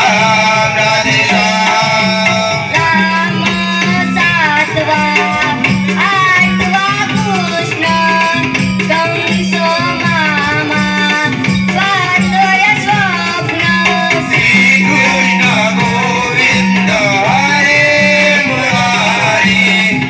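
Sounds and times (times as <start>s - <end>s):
child singing: 0.0s - 19.6s
hand percussion beat: 0.0s - 20.0s.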